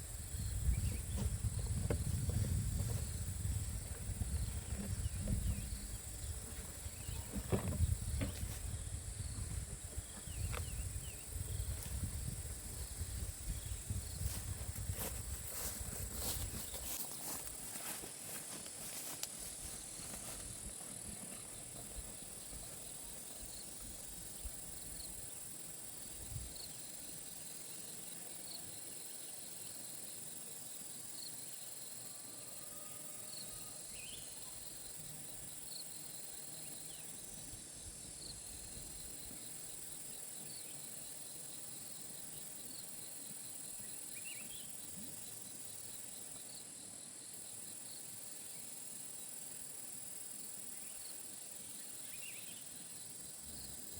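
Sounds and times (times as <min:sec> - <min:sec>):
faint cricket chirp: 0:00.0 - 0:53.9.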